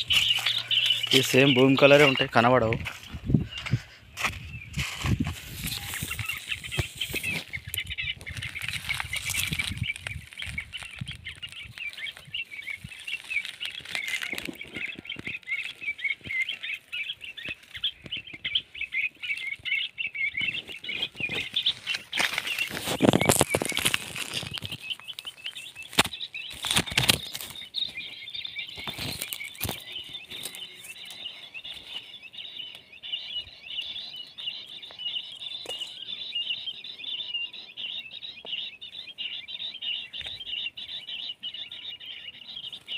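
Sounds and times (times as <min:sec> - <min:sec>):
high chirping: 0:00.0 - 0:42.9.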